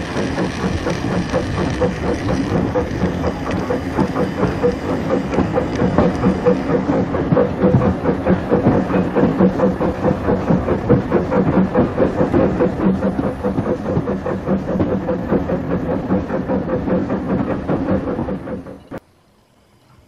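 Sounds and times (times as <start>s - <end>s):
model train wheels clicking: 0.0s - 19.0s
motor hum: 0.0s - 19.0s.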